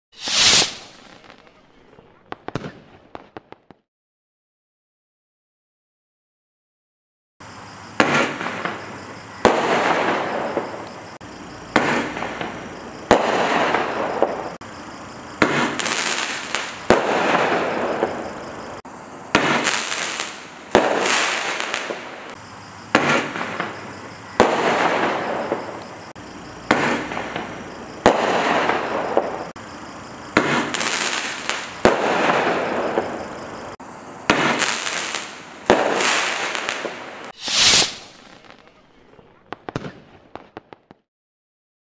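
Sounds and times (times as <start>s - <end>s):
firework shots banging and bursting: 0.2s - 1.5s, 2.3s - 3.8s, 7.9s - 14.7s, 15.4s - 29.7s, 30.3s - 38.7s, 39.5s - 41.0s.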